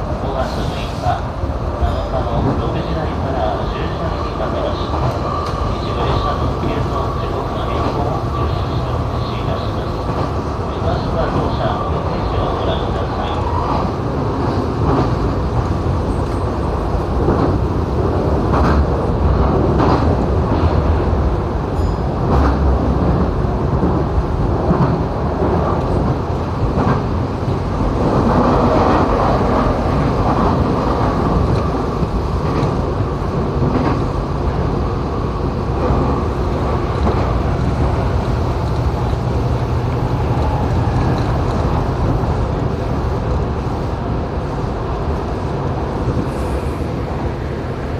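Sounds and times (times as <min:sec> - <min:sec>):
wheel-on-rail rumble: 0:00.0 - 0:47.9.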